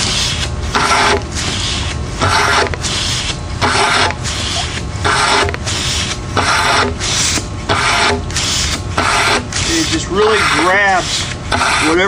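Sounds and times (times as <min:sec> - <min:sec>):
hand pump strokes: 0:00.0 - 0:12.0.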